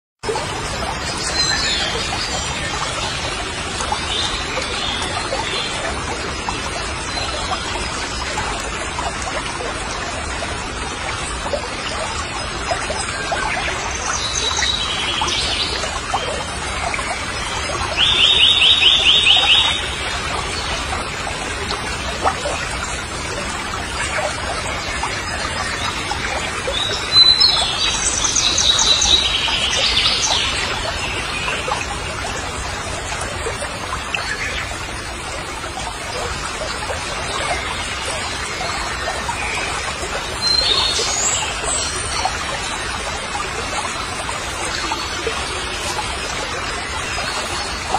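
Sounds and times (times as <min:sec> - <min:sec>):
steady hiss of running water: 0:00.4 - 0:47.9.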